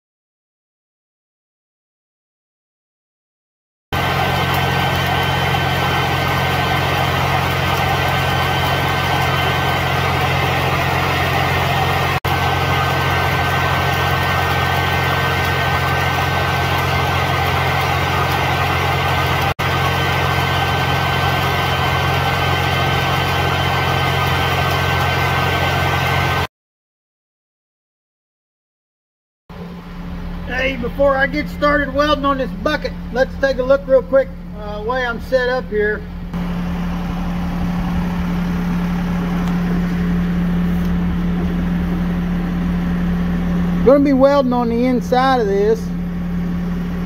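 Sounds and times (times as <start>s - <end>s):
welder engine droning: 4.0s - 26.5s, 29.5s - 47.0s
welding arc crackling: 4.0s - 26.5s, 29.8s - 47.0s.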